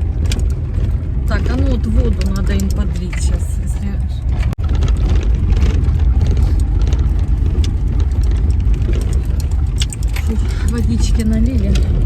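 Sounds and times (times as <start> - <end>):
car rumbling: 0.0 - 12.0
small clicks and rattles: 0.0 - 12.0.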